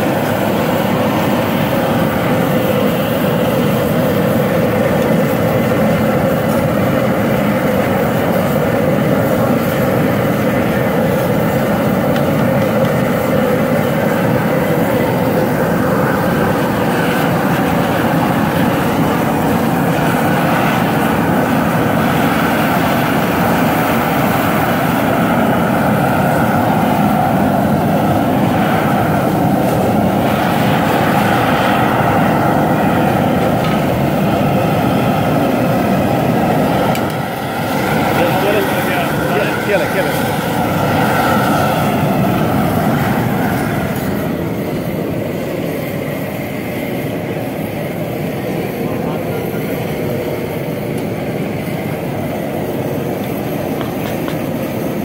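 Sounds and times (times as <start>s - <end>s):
gas burner roaring: 0.0s - 55.0s.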